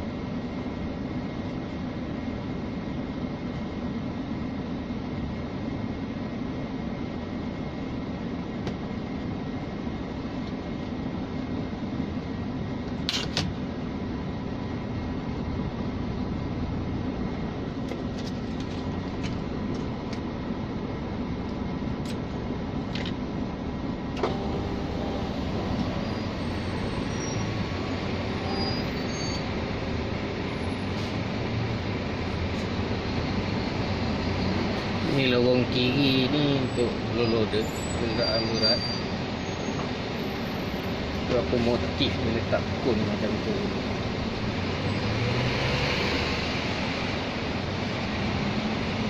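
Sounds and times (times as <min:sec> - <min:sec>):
truck diesel engine rumbling: 0:00.0 - 0:45.8.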